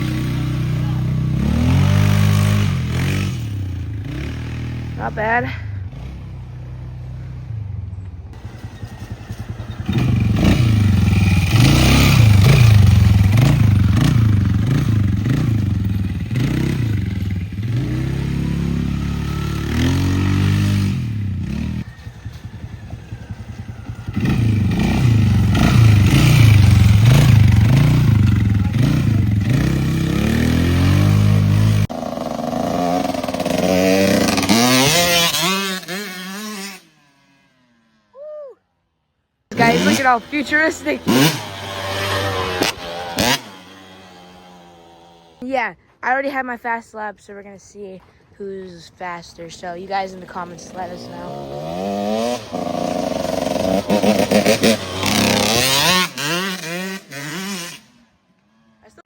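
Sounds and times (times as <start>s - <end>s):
motorcycle engine revving: 0.0s - 38.1s, 39.4s - 45.4s, 49.8s - 59.0s.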